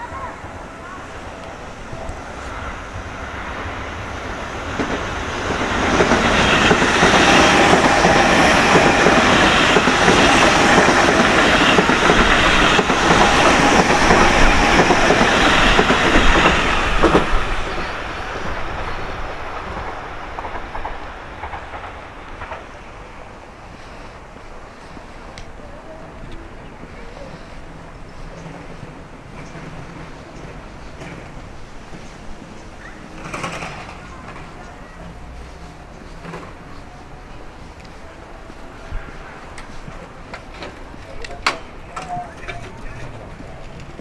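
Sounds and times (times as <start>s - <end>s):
train passing with wheel clatter: 0.0s - 44.0s.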